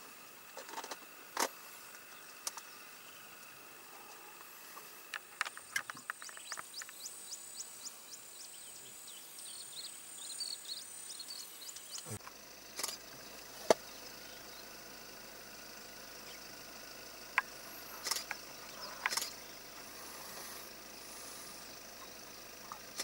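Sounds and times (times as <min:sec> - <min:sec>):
high-pitched insect drone: 0:00.2 - 0:23.0.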